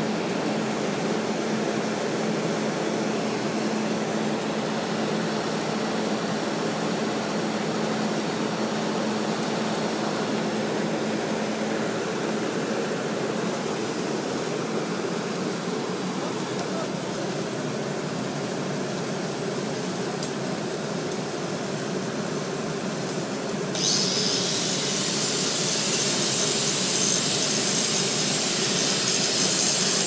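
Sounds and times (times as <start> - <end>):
welding equipment humming and hissing: 0.0 - 30.0.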